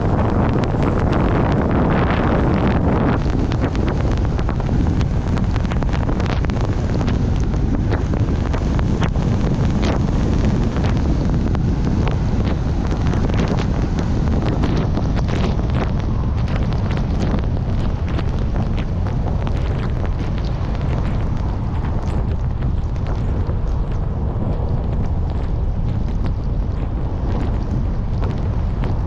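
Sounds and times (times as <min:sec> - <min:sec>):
small clicks and ticks: 0:00.0 - 0:29.0
vehicle rumble on snow: 0:00.0 - 0:29.0.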